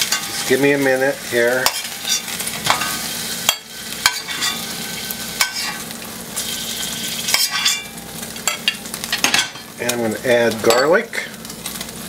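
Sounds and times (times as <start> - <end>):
chicken sizzling in frying pan: 0.0 - 12.0.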